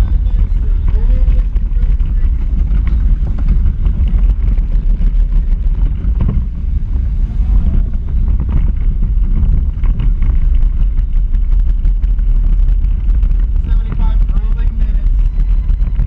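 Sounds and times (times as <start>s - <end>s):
wheels and chassis rumbling and rattling: 0.0s - 16.0s.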